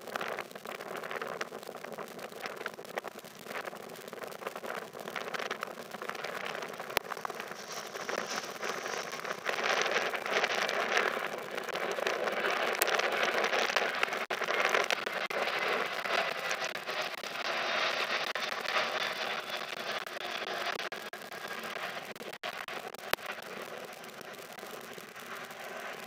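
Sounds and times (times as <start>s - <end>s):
jet engines at take-off thrust: 5.0s - 26.0s.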